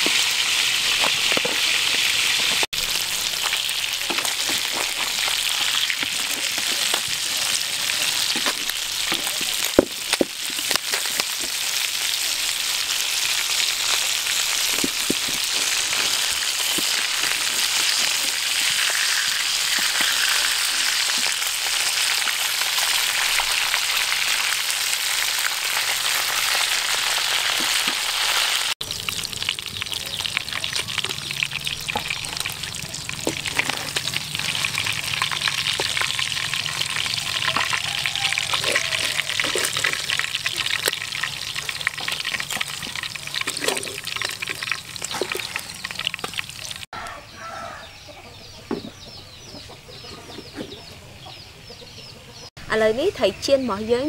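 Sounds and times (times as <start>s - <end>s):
fish deep-frying in hot oil: 0.0s - 47.0s.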